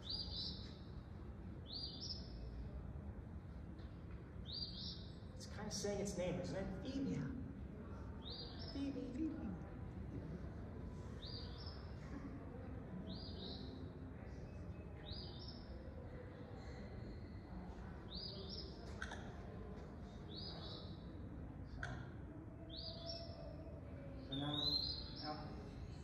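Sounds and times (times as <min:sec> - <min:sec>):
recorded birdsong over loudspeakers: 0:00.0 - 0:26.0.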